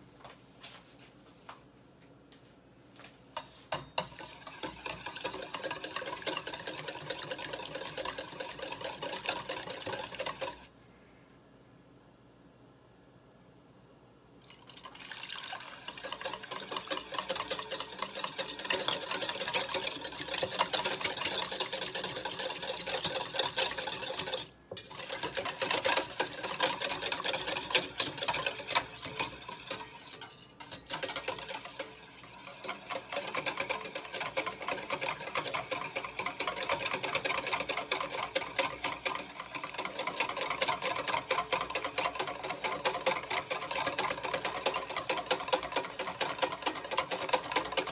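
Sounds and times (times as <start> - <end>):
whisk rattling in metal bowl: 3.7 - 10.7, 15.2 - 47.9.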